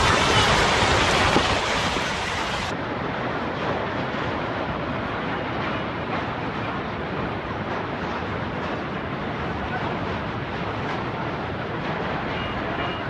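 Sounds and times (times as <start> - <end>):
landslide rushing and rumbling: 0.0 - 12.6.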